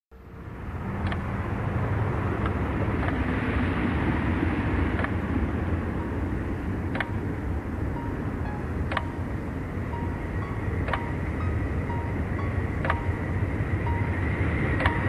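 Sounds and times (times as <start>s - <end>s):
low rumbling hum: 0.1s - 15.0s.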